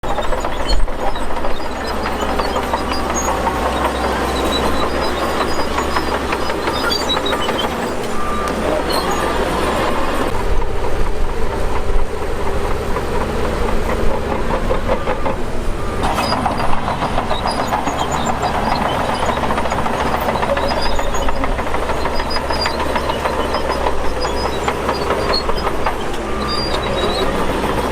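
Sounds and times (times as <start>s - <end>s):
short metallic squeaks: 0.0s - 10.3s, 14.6s - 27.9s
diesel engine running: 0.0s - 27.9s
steel tracks clattering: 0.0s - 27.9s.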